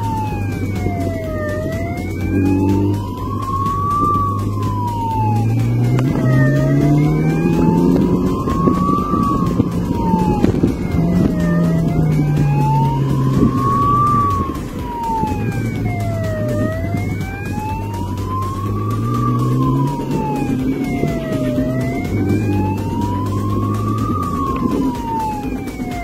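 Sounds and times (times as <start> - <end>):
motorcycle engine: 0.0 - 26.0
siren wailing: 0.0 - 26.0.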